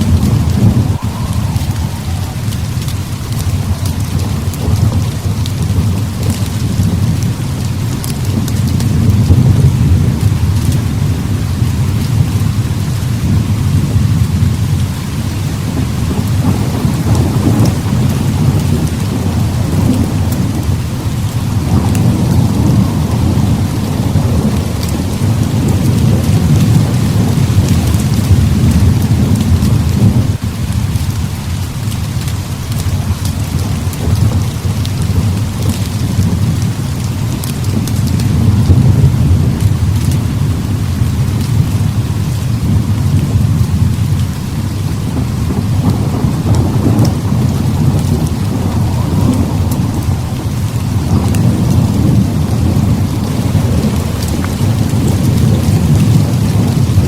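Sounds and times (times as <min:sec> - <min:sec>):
heavy rain hissing: 0:00.0 - 0:57.0
rolling thunder: 0:00.0 - 0:57.0.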